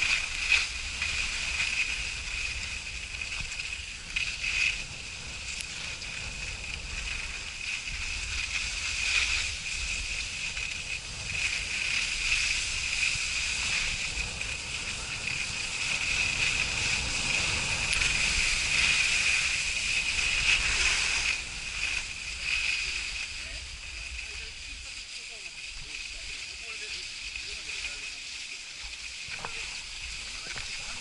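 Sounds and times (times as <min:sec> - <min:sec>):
skis hissing over snow: 0:00.0 - 0:31.0
wind buffeting microphone: 0:00.0 - 0:31.0.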